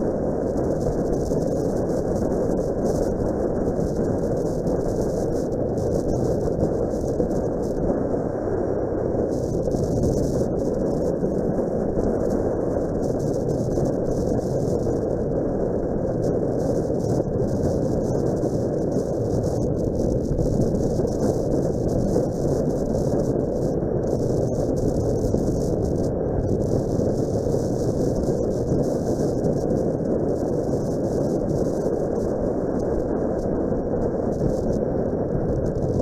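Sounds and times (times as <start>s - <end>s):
wind rush on microphone: 0.0s - 36.0s.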